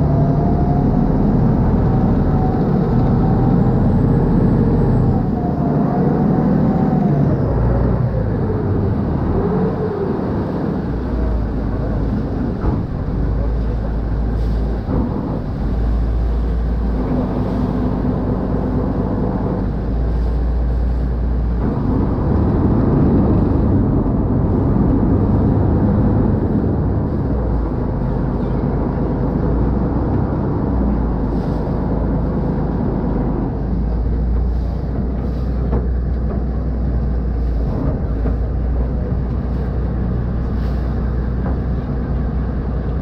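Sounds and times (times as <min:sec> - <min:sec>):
boat diesel engine running: 0:00.0 - 0:43.0
wake rushing against hull: 0:00.0 - 0:43.0.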